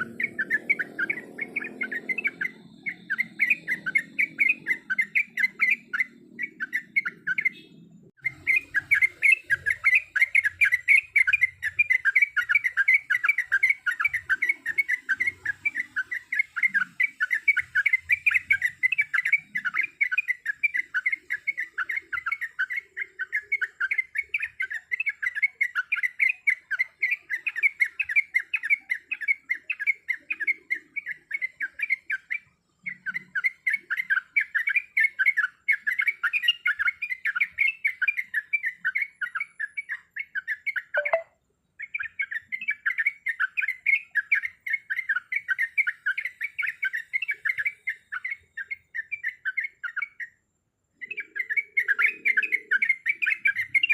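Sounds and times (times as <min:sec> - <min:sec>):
bird chattering song: 0:00.0 - 0:53.9.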